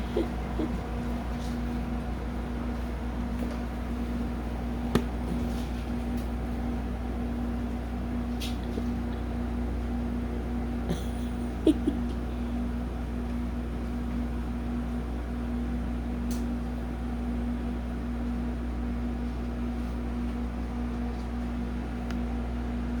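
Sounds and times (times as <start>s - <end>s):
appliance fan hum: 0.0s - 23.0s.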